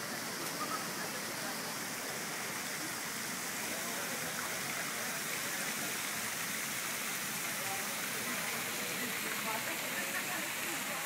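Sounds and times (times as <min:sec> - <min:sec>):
fountain jets splashing into pool: 0:00.0 - 0:11.0.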